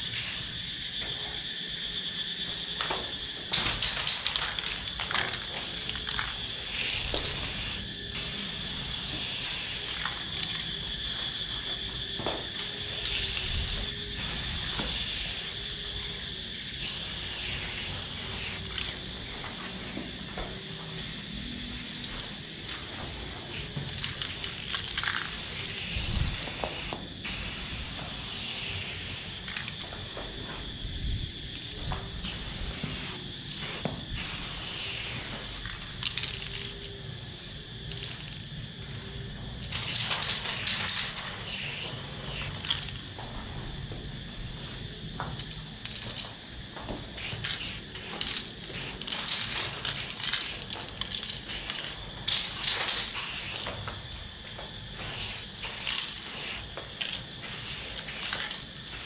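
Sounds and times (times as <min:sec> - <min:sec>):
spray paint can hissing: 0:00.0 - 0:43.6, 0:44.4 - 0:59.0.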